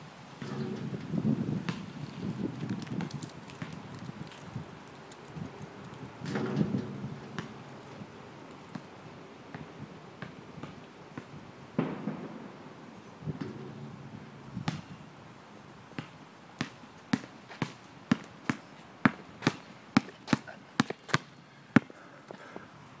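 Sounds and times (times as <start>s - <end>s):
basketball bouncing on asphalt: 0.4s - 4.7s, 5.4s - 12.4s, 13.2s - 15.1s, 15.9s - 22.0s.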